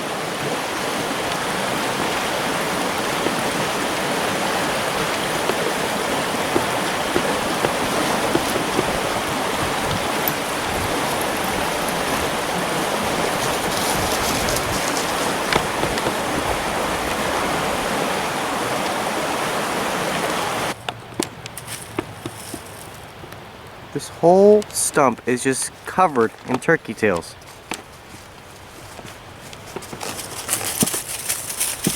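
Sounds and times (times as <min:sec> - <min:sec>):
creek water rushing: 0:00.0 - 0:31.9.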